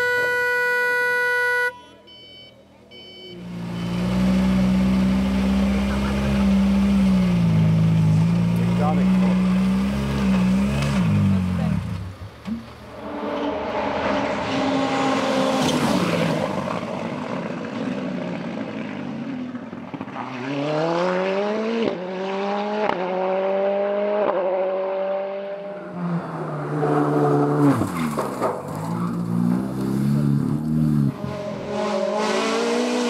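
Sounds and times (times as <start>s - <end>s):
race car engine accelerating: 3.4s - 12.0s, 12.9s - 33.0s.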